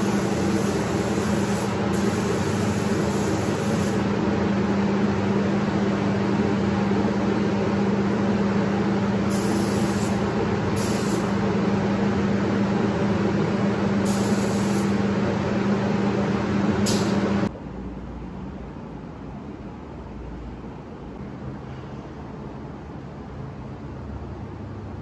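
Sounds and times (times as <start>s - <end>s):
ventilation air rush with hum: 0.0s - 25.0s.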